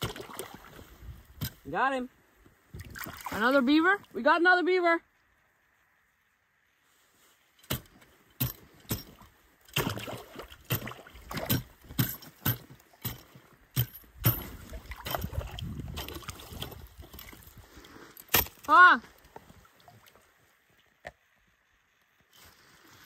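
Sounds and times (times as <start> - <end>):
water splashing and sloshing: 0.0 - 4.3, 6.9 - 21.3.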